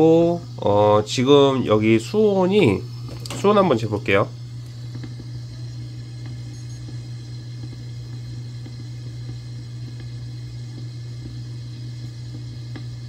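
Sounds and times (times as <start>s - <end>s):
aquarium pump low hum: 0.0s - 13.0s.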